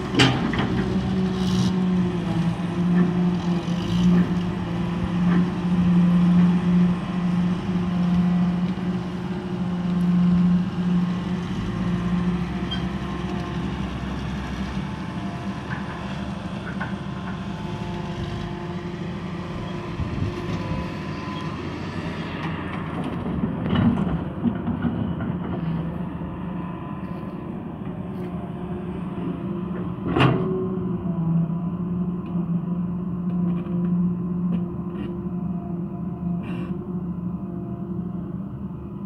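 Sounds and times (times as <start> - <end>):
excavator diesel engine under load: 0.0 - 39.0.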